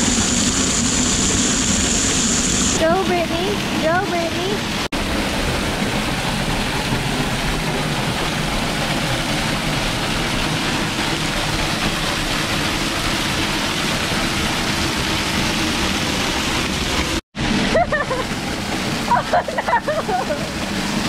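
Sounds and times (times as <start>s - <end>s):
waterfall splashing onto rocks: 0.0s - 3.6s, 4.9s - 21.0s.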